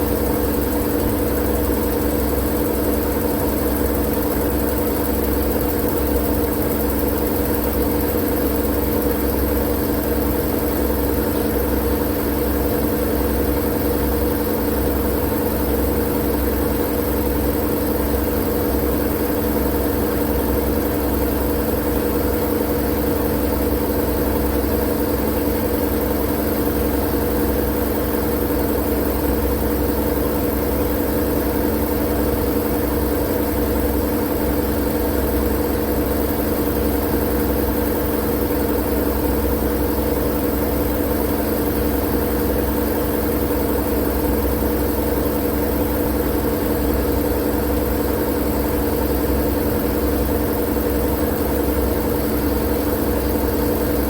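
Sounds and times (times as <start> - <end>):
mechanical drone with low rumble: 0.0 - 54.0.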